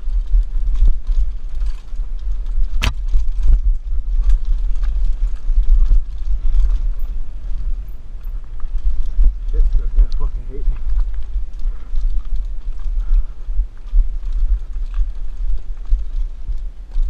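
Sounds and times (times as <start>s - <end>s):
mountain bike rattling on trail: 0.0s - 17.0s
wind buffeting microphone: 0.0s - 17.0s.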